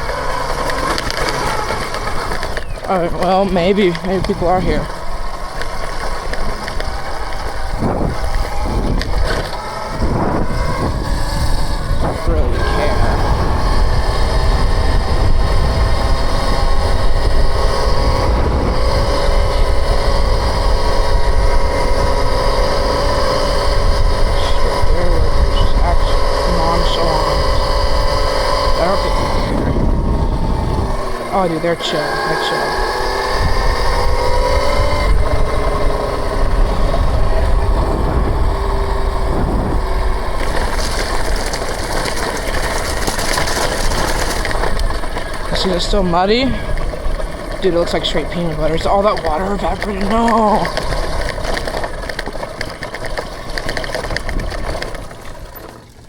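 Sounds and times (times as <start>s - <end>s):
wind rumble on microphone: 0.0s - 55.8s
dirt bike drivetrain whine: 0.0s - 56.0s.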